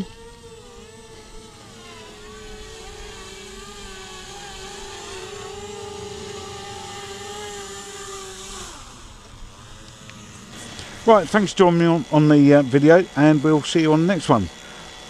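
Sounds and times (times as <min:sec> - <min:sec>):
model plane propellers whining: 0:00.0 - 0:15.0.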